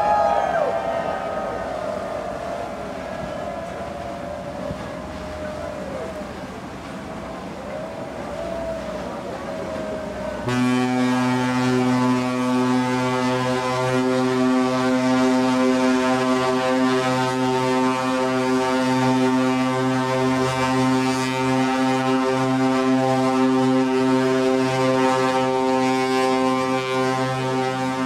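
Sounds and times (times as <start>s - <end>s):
ship's horn low note: 0.0s - 28.0s.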